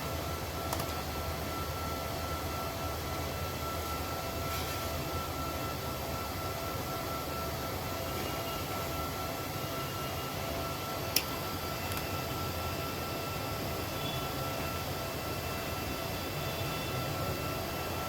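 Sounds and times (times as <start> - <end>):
machine hum and hiss: 0.0 - 18.0.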